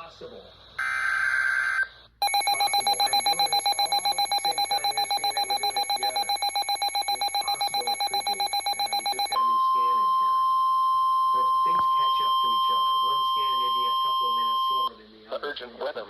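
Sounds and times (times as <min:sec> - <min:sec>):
fast-pulsing electronic alarm beeps: 0:00.8 - 0:14.9.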